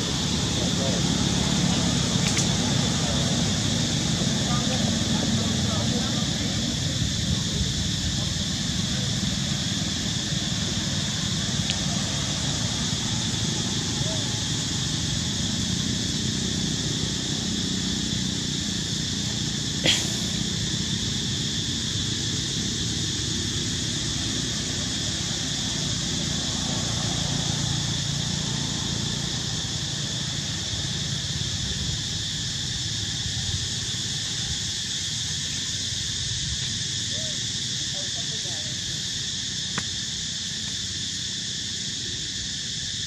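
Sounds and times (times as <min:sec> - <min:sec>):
insect chorus buzzing: 0:00.0 - 0:43.0.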